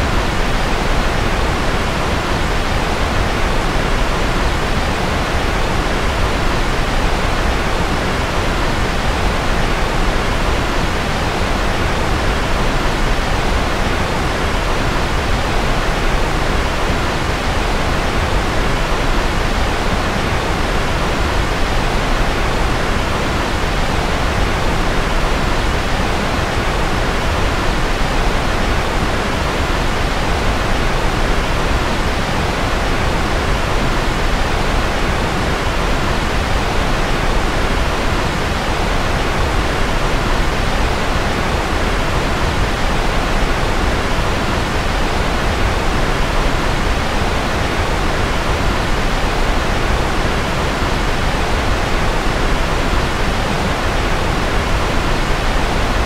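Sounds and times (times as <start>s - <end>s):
steady white noise: 0.0s - 56.0s.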